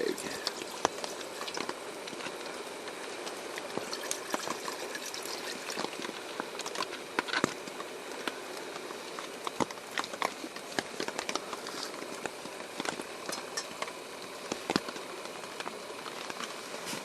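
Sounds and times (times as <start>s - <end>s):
rain on a tarp: 0.0s - 17.0s.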